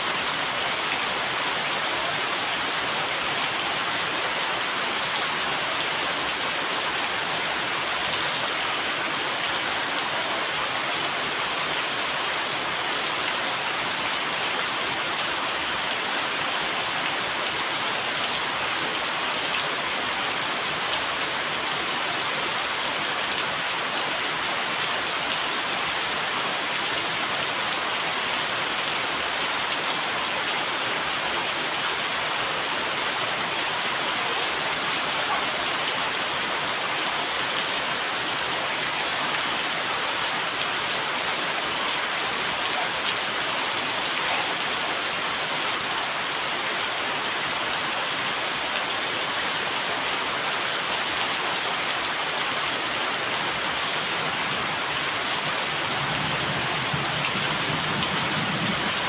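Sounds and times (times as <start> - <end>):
rain hissing on surfaces: 0.0 - 59.0.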